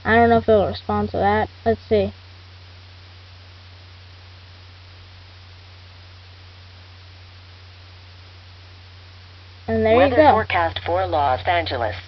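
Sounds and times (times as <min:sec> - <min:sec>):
faint hiss: 0:00.0 - 0:12.0
low electrical hum: 0:00.0 - 0:12.0.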